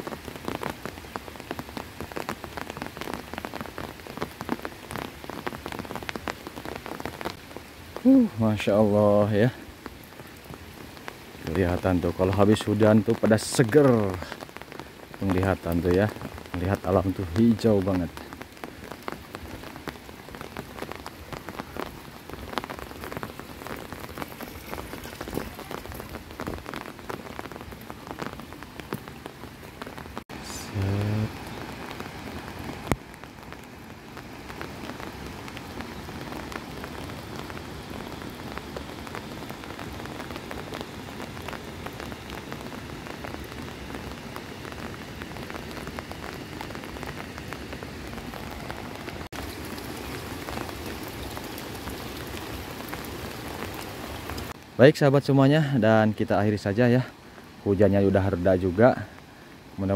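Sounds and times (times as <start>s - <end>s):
light rain hissing: 0.0s - 59.9s
raindrops ticking: 0.0s - 59.9s.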